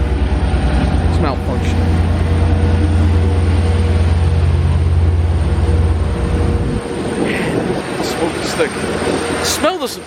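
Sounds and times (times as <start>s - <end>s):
train low rumble: 0.0s - 10.0s.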